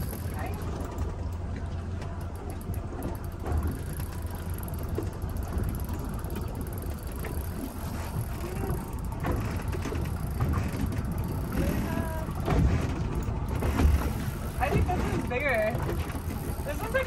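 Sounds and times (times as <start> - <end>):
boat noise: 0.0 - 17.0.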